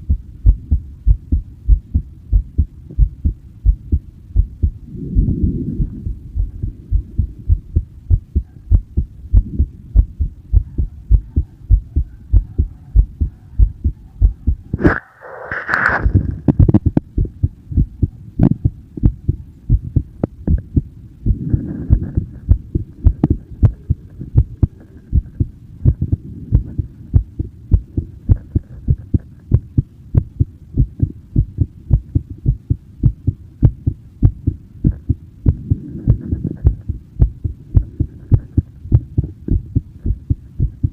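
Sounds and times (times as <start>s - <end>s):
human heartbeat: 0.0s - 14.8s, 16.0s - 40.9s.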